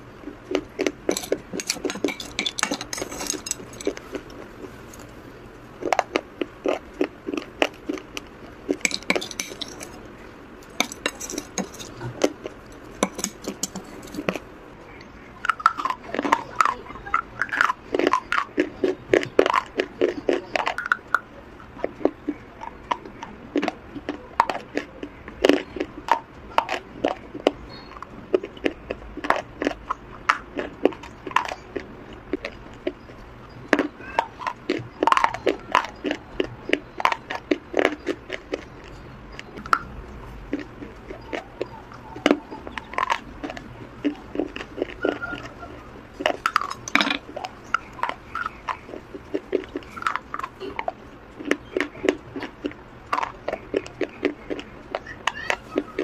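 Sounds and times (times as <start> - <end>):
person crunching hard clay: 0.2 - 55.8.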